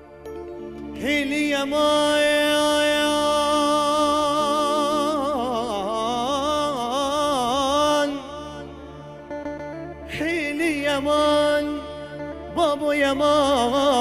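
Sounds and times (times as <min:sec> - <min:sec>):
man singing into a microphone: 0:00.9 - 0:09.3, 0:10.0 - 0:14.0.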